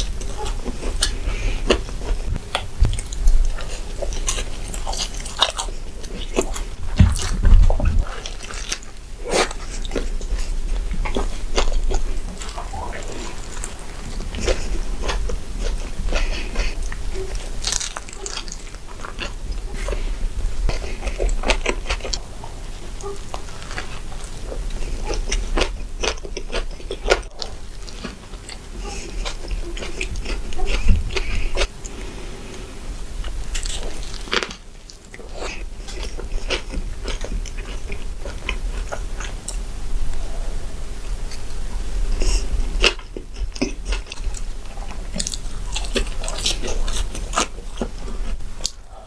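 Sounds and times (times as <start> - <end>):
wet chewing: 0.0 - 32.6, 33.2 - 49.0.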